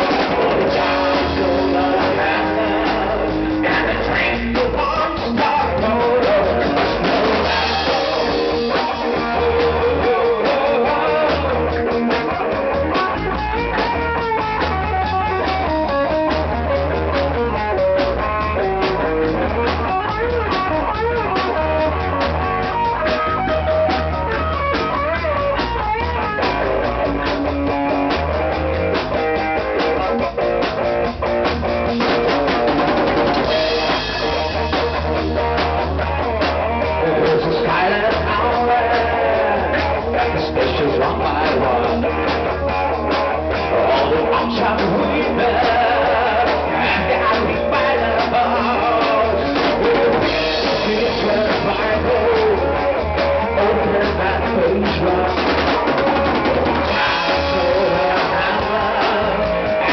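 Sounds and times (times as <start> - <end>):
bass guitar: 0.0 - 59.9
drum kit steady beat: 0.0 - 59.9
electric guitar lead: 0.0 - 59.9.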